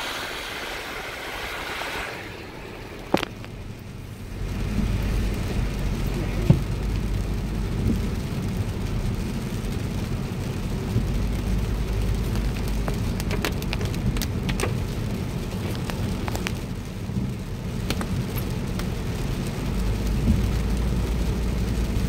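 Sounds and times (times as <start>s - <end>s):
car driving on wet road: 0.0s - 22.0s
raindrops hitting windshield: 0.0s - 22.0s.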